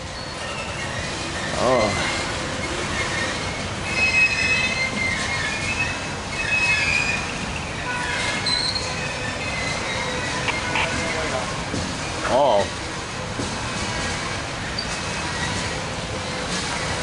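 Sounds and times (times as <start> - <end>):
train wheels squealing: 0.0 - 11.4, 13.8 - 17.0
rumble of rolling freight cars: 0.0 - 17.0.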